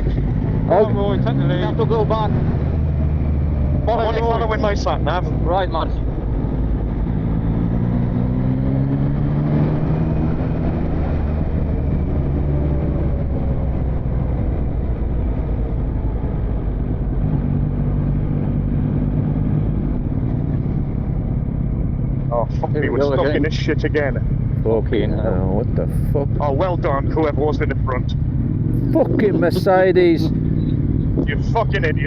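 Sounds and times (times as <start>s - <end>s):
motorcycle engine revving: 0.0s - 32.0s
wind and road noise: 0.0s - 32.0s.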